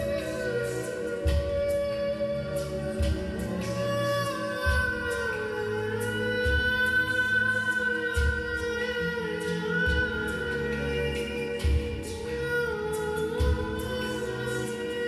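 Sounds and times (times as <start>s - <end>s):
slow ambient meditation music: 0.0s - 15.0s.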